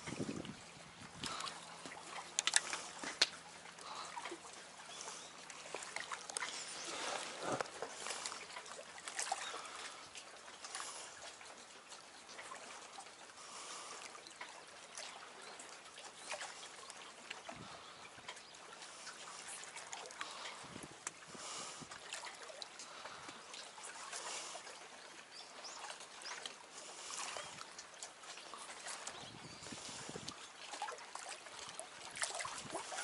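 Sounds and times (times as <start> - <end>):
waves lapping against rocks: 0.0 - 33.0.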